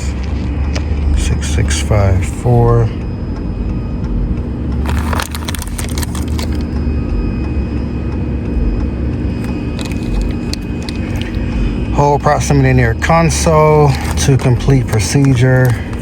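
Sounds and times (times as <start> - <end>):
faint steady hum: 0.0 - 16.0
vehicle low rumble: 0.0 - 16.0.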